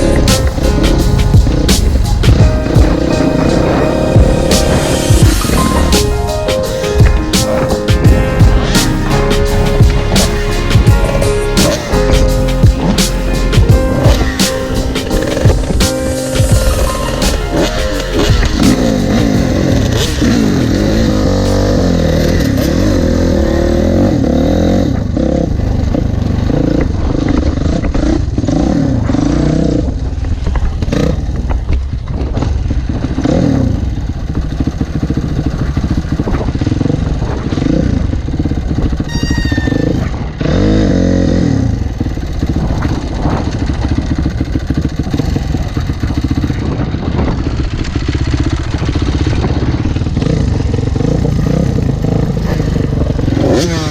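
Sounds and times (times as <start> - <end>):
dirt bike engine revving: 0.0 - 6.1, 7.1 - 30.0, 32.4 - 53.9
wind noise on microphone: 0.0 - 23.5, 24.6 - 53.9.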